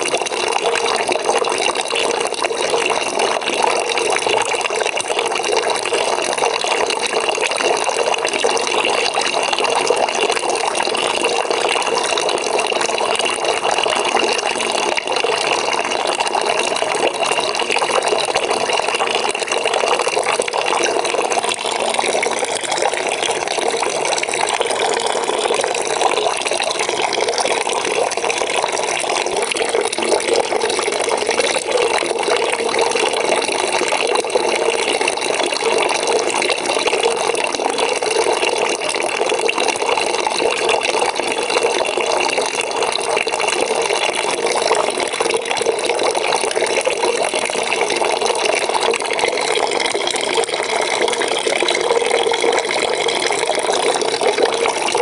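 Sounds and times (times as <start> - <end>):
water pouring into a bucket: 0.0 - 55.0.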